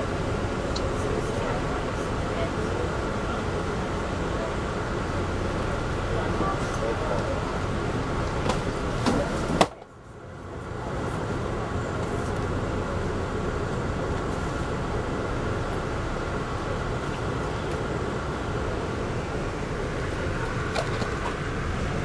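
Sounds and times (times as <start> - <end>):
train car rumbling on track: 0.0 - 22.0.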